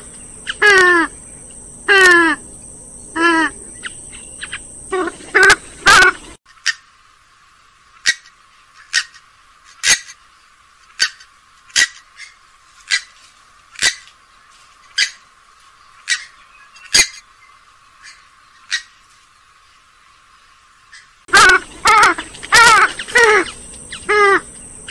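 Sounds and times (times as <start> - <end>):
swamphen sharp calls: 0.0 - 7.0, 7.9 - 10.2, 10.9 - 14.2, 14.8 - 15.3, 15.9 - 19.1, 20.9 - 24.9.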